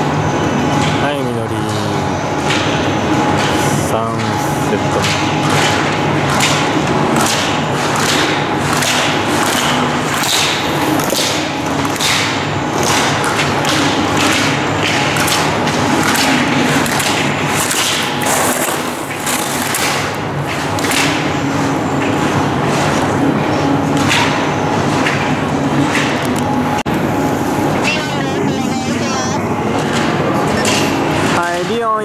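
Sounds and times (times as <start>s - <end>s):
steady low hum: 0.0s - 31.4s.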